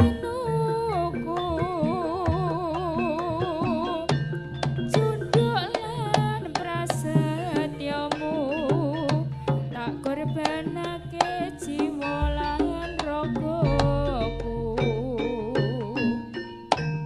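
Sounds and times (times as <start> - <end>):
wavering melody: 0.0 - 17.0
hand drums struck quickly: 2.2 - 17.0.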